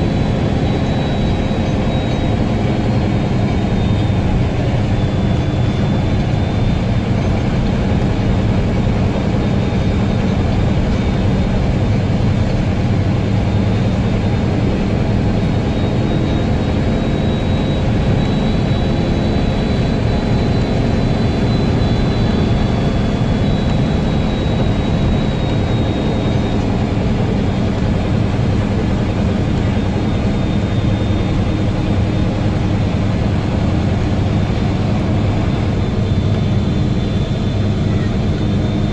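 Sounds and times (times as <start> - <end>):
bus diesel engine droning: 0.0 - 38.9
high whistle: 0.0 - 38.9.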